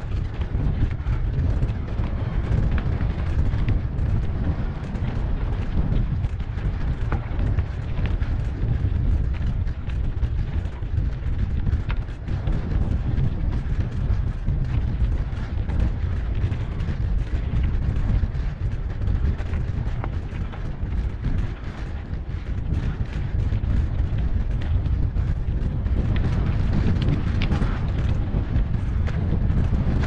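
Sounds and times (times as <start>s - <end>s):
bike clicks and rattles: 0.0s - 30.0s
wind buffeting microphone: 0.0s - 30.0s.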